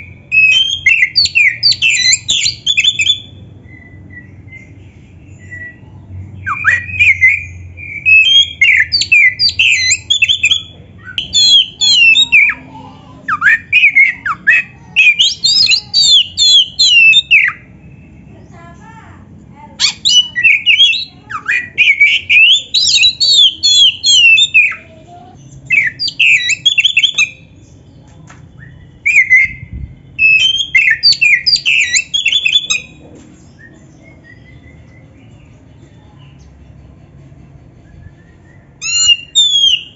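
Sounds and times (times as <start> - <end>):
songbird singing: 0.0 - 37.0, 37.8 - 39.9.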